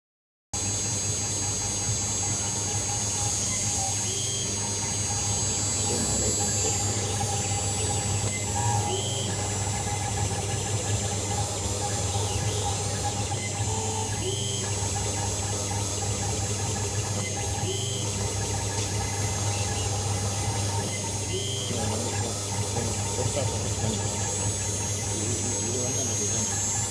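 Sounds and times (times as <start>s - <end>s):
engraving machine motor whining: 0.6s - 26.9s.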